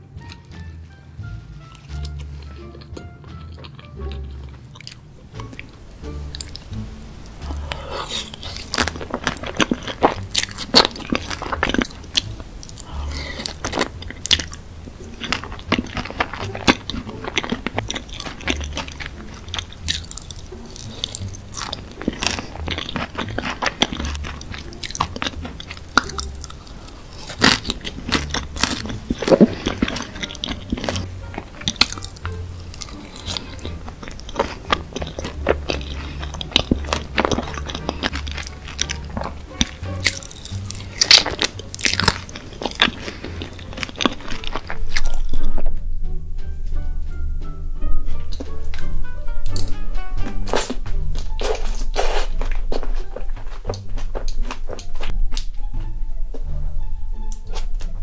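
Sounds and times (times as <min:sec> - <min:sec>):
close-miked chewing: 0:01.4 - 0:45.8, 0:50.4 - 0:55.6.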